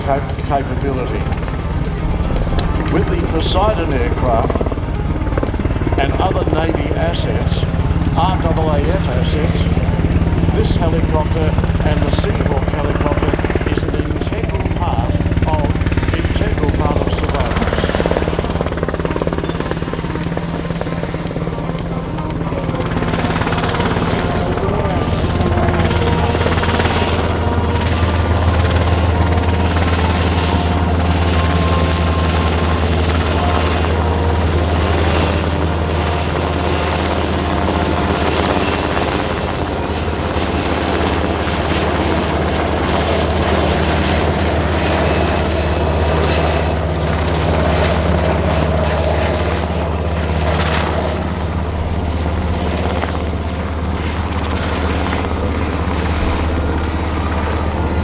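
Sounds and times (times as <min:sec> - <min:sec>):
helicopter flying past: 0:00.0 - 0:58.0.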